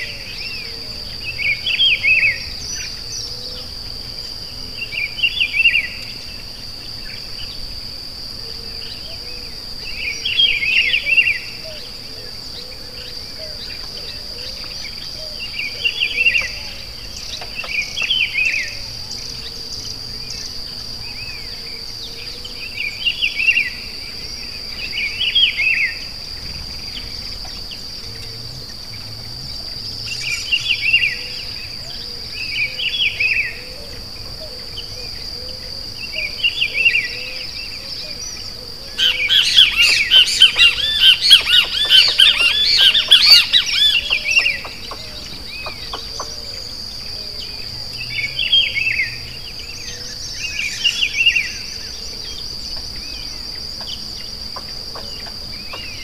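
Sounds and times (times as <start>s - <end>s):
high-pitched insect drone: 0.0s - 56.0s.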